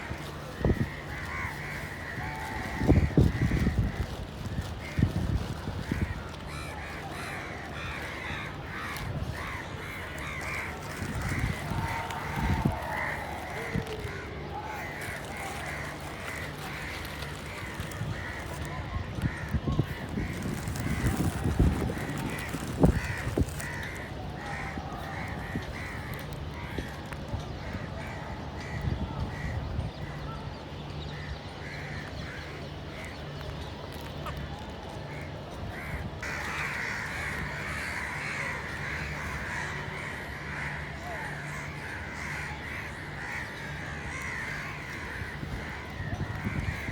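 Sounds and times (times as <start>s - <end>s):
crows cawing: 0.2s - 5.2s, 5.8s - 30.2s, 35.2s - 46.9s.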